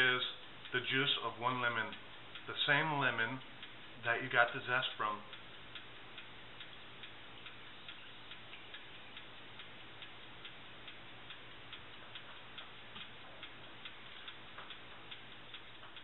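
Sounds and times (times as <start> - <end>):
faint regular ticking: 0.0 - 16.0
low steady hum: 0.0 - 16.0.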